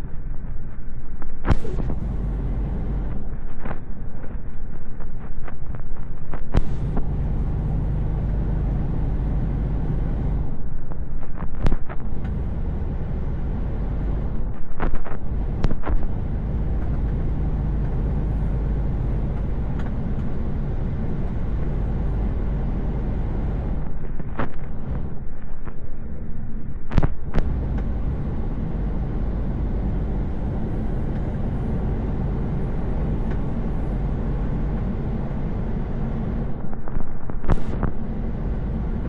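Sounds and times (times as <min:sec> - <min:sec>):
truck engine and road drone: 0:00.0 - 0:39.0.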